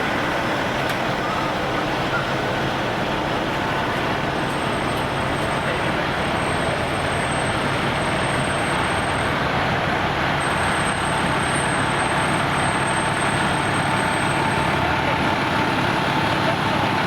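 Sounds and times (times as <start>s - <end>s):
fire truck engine running: 0.0s - 17.0s.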